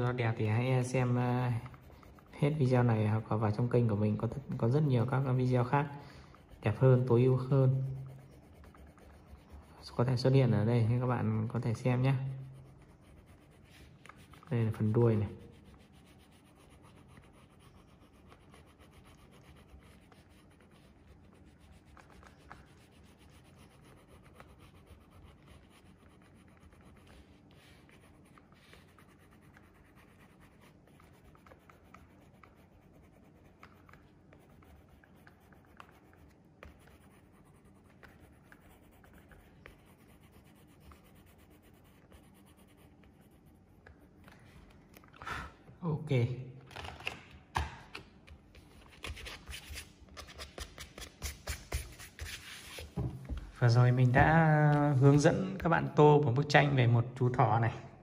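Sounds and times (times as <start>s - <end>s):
oil pastel scratching on paper: 0.0s - 44.6s, 48.6s - 55.3s.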